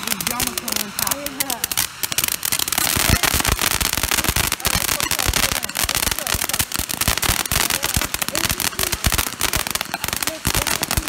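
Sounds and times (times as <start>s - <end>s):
firework fountain crackling: 0.0s - 11.0s.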